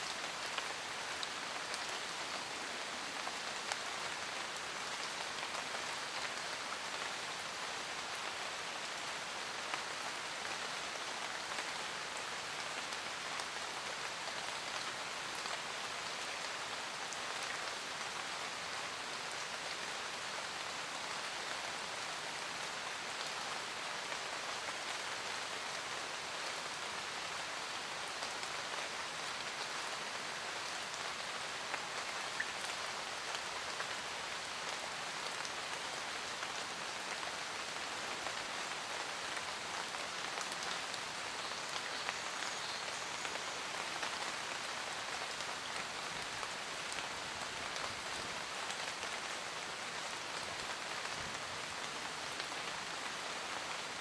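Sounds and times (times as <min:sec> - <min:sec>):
rain pattering on a roof: 0:00.0 - 0:54.0.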